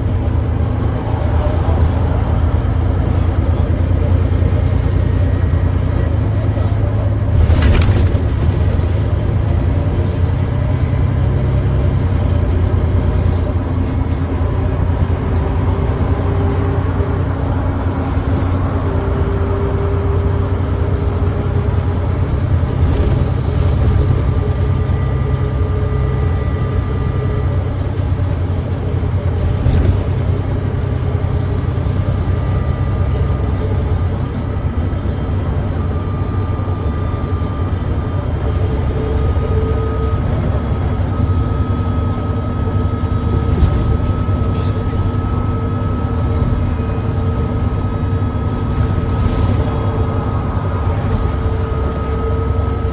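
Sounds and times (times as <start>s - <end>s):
bus diesel engine droning: 0.0s - 52.9s.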